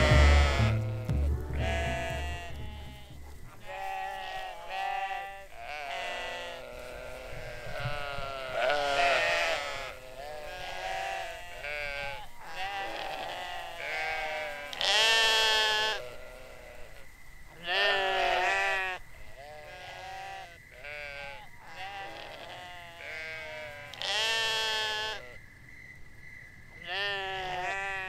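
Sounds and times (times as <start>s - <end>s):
farm animals bleating: 0.0s - 25.4s, 26.8s - 28.0s.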